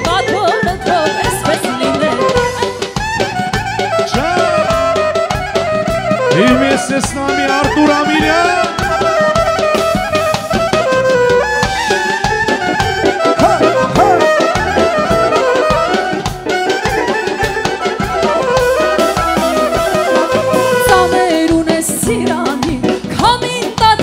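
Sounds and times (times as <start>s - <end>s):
folk-pop lead melody: 0.0s - 24.0s
steady drum beat: 0.0s - 24.0s.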